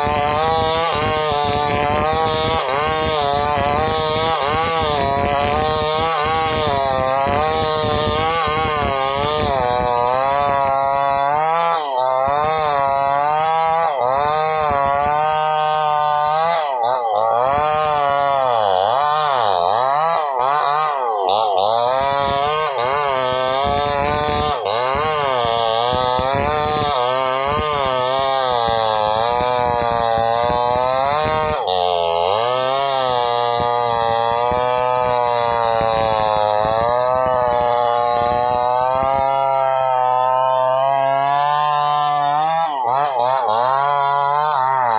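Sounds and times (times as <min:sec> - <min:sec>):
chainsaw cutting through wood: 0:00.0 - 0:44.9.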